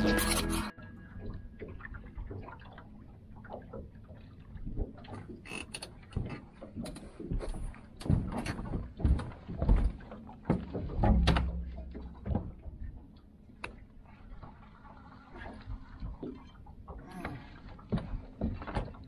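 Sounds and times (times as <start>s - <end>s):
knocks and clunks on boat deck: 1.2s - 14.8s, 15.4s - 19.0s.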